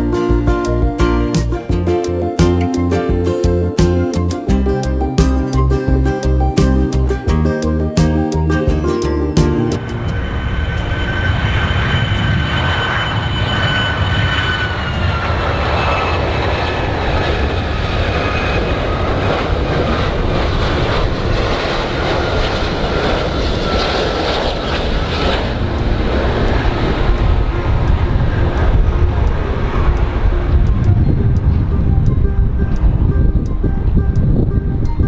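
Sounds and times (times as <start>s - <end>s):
airplane engines whining: 0.0s - 35.0s.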